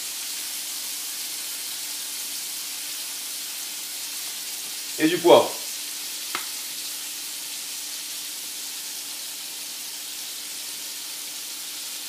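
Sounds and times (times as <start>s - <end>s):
scallops sizzling in a pan: 0.0s - 12.0s.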